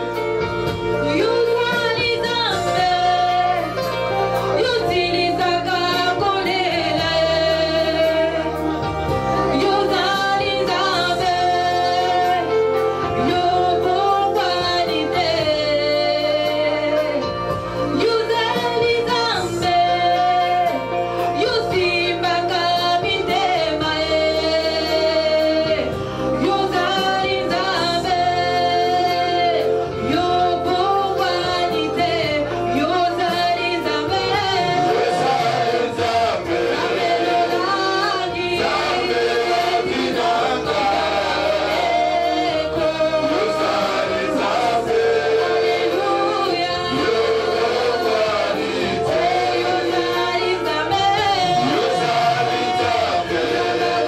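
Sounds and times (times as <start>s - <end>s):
held accompaniment chords: 0.0s - 54.0s
women singing along: 1.1s - 17.2s, 17.9s - 54.0s.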